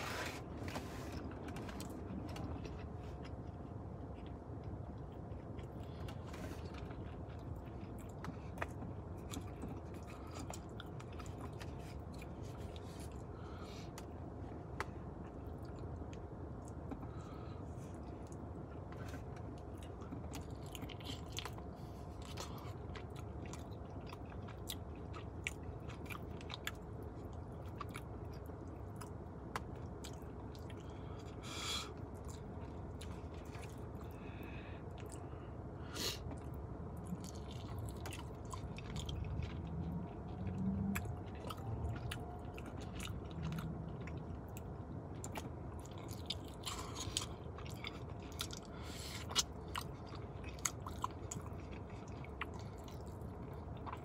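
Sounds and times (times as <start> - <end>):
chewing chicken wings: 1.2 - 14.1, 14.8 - 35.3, 36.0 - 54.0.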